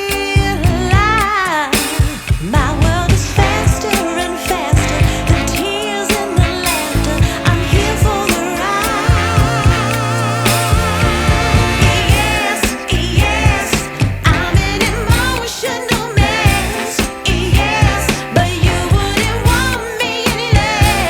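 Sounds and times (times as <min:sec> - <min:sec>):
pop music with singing: 0:00.0 - 0:21.0.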